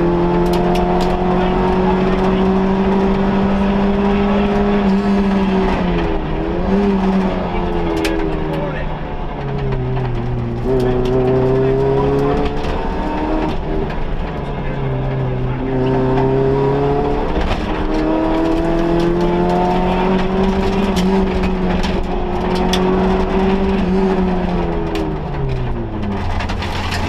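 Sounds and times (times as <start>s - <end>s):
rally car engine pulling hard: 0.0s - 27.0s.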